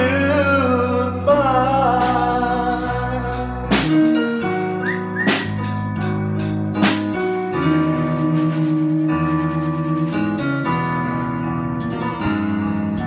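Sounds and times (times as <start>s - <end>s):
live band playing pop ballad: 0.0s - 13.0s.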